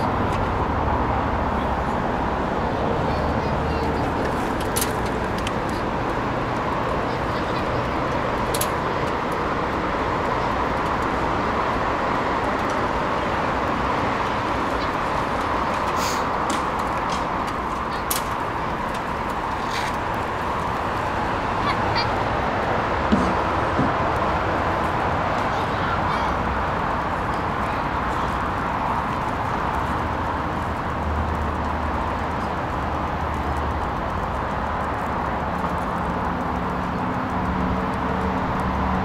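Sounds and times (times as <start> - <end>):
bicycle tyre noise: 0.0 - 39.0.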